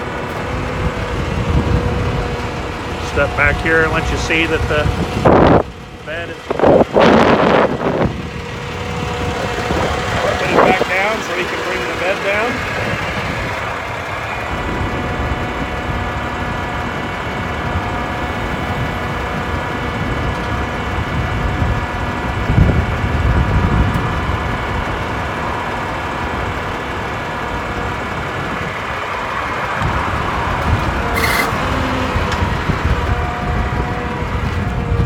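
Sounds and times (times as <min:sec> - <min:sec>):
diesel truck engine running: 0:00.0 - 0:35.0
hydraulic whine: 0:00.0 - 0:35.0.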